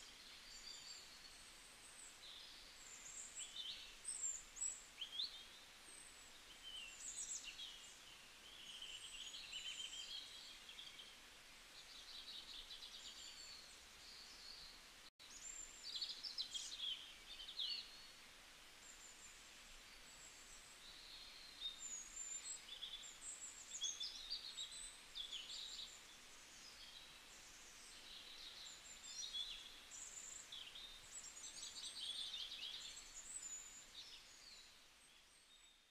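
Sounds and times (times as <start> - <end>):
small birds chirping and trilling: 0.0 - 18.2, 18.8 - 35.9.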